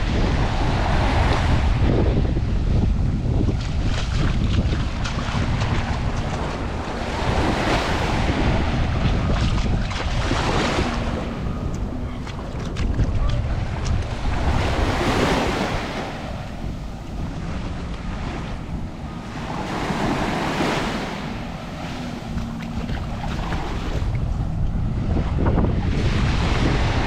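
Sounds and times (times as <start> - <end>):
sea waves breaking on beach: 0.0 - 27.0
wind rumbling on microphone: 0.0 - 27.0.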